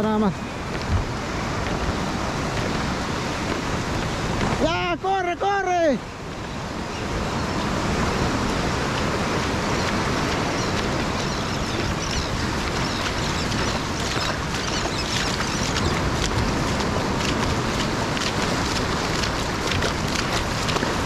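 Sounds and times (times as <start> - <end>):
ocean surf on rocky shore: 0.0 - 21.0
wind buffeting microphone: 0.0 - 21.0.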